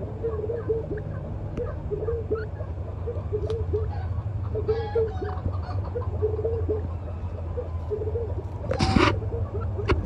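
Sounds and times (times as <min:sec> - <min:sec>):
birds clucking: 0:00.0 - 0:10.0
steady low hum: 0:00.0 - 0:10.0.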